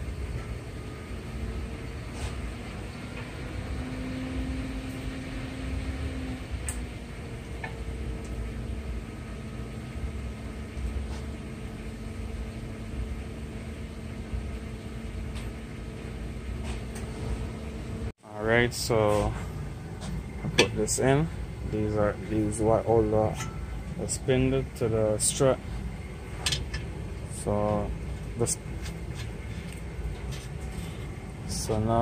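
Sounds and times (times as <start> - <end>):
machinery humming: 0.0 - 32.0.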